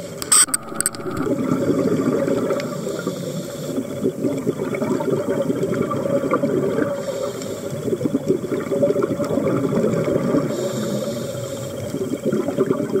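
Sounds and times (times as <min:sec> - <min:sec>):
underwater bubbling and gurgling: 0:00.0 - 0:13.0.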